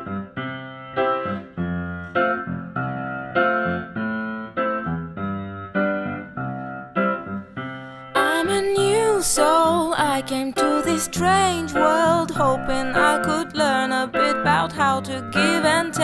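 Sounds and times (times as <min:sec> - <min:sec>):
keyboard playing chords: 0:00.0 - 0:16.0.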